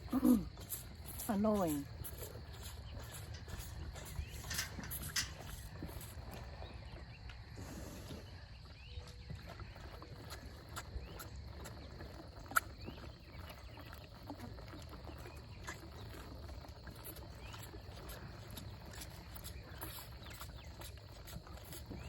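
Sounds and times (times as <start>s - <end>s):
cattle feeding: 0.0s - 22.0s.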